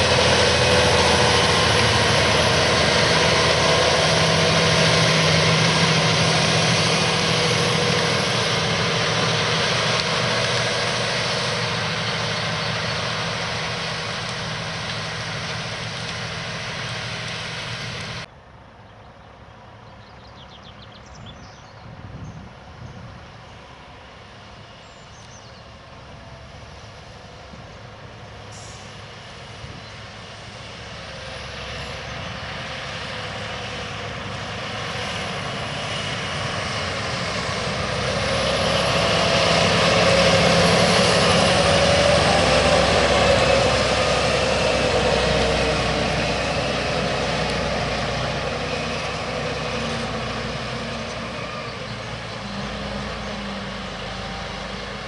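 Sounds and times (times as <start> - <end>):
tractor engine under load: 0.0 - 18.3, 25.8 - 55.0
cultivator in soil: 0.0 - 55.0.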